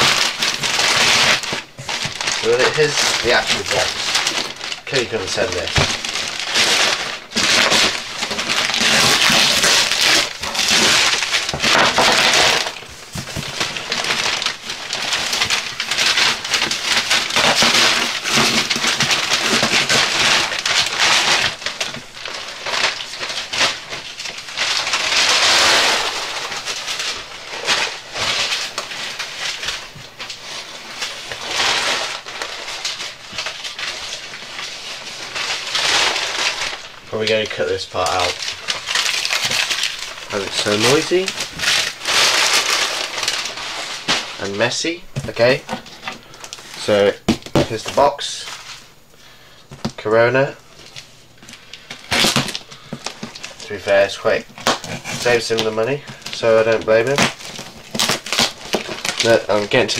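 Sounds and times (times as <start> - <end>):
paper tearing and rustling: 0.0 - 59.9.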